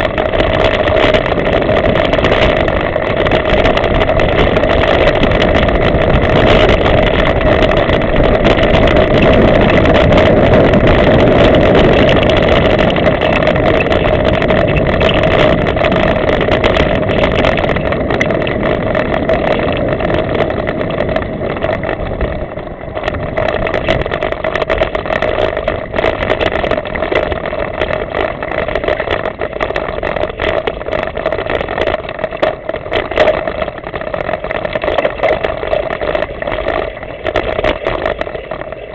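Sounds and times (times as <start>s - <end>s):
bike rattles and knocks: 0.0s - 38.9s
bike tyre rumble: 0.0s - 38.9s
wind: 0.0s - 38.9s.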